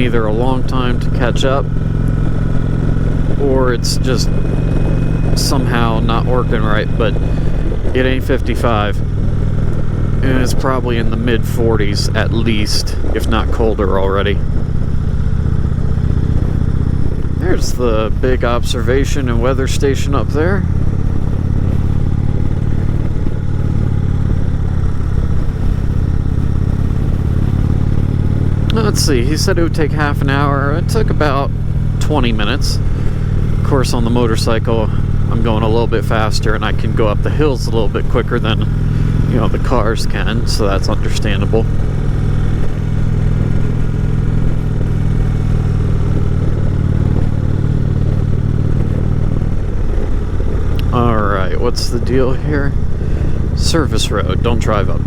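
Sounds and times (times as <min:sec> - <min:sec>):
motorcycle engine running steadily: 0:00.0 - 0:55.0.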